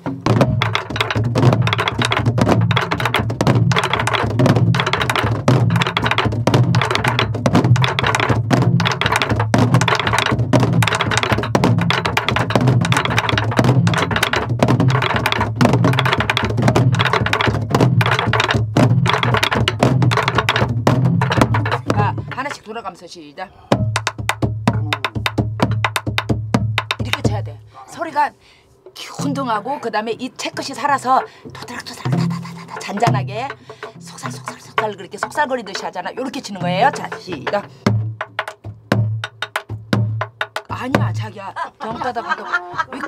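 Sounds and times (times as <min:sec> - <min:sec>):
barrel drum booms: 0:00.0 - 0:22.6, 0:23.7 - 0:27.5, 0:32.0 - 0:41.4
sticks clicking on wooden shell: 0:00.4 - 0:22.7, 0:23.8 - 0:27.4, 0:30.6 - 0:40.9.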